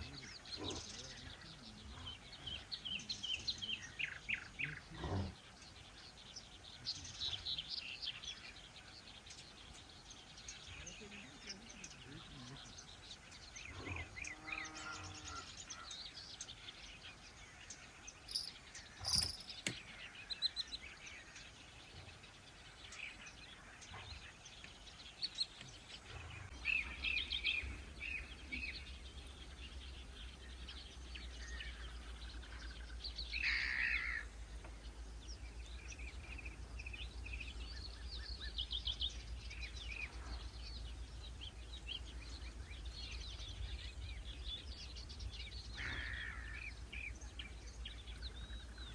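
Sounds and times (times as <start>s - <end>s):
birds chirping and singing: 0.0s - 48.9s.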